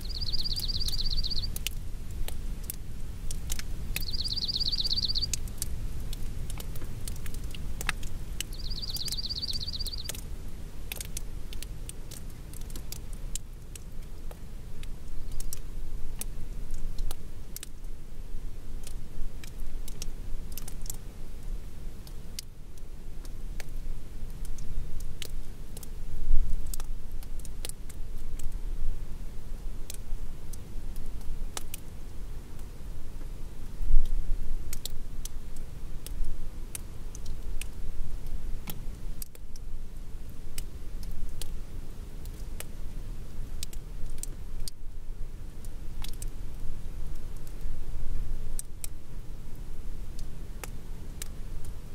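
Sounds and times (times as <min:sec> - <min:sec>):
light raindrops ticking: 0:00.0 - 0:51.9
wind rumble and gusts: 0:00.0 - 0:51.9.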